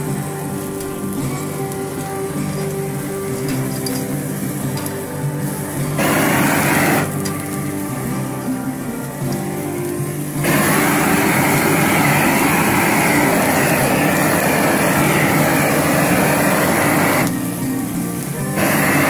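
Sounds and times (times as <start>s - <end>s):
flame torch roaring: 0.0s - 19.0s.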